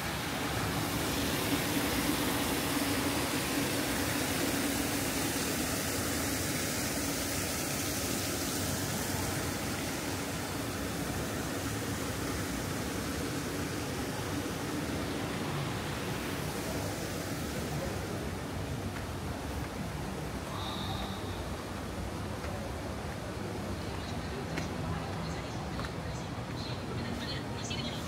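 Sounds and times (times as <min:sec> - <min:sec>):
even rushing noise: 0:00.0 - 0:23.8.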